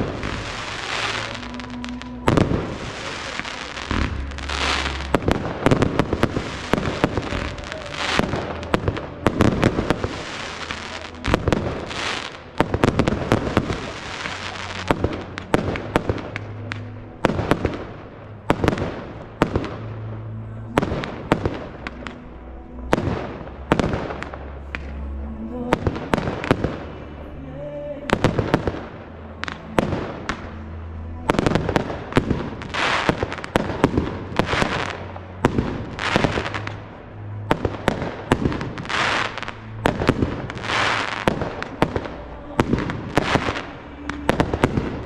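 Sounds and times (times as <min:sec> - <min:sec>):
fireworks bursting: 0:00.0 - 0:27.0, 0:27.8 - 0:45.0
fireworks crackling: 0:00.0 - 0:45.0.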